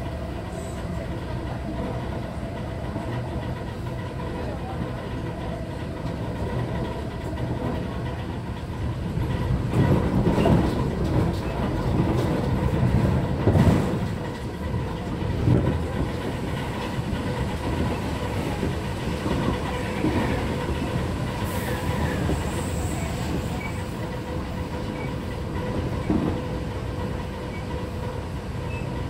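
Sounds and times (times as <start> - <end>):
clickety-clack over rail joints: 0.0 - 29.0
train wheels rumbling on rail: 0.0 - 29.0.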